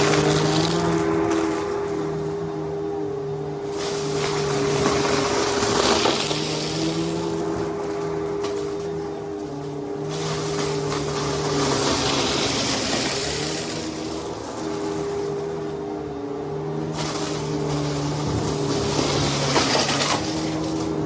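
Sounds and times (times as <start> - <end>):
vacuum cleaner motor humming: 0.0 - 21.0
vacuum sucking up debris: 0.0 - 21.0.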